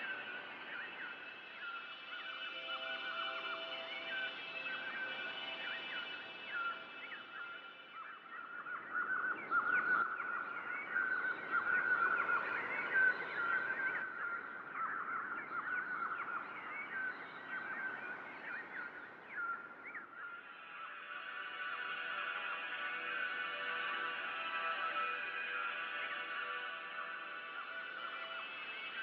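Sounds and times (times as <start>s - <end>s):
flock of birds calling: 0.0s - 29.0s.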